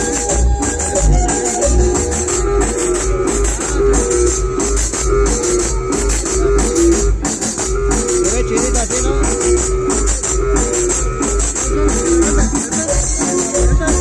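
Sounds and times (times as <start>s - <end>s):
loud dance music: 0.0s - 14.0s.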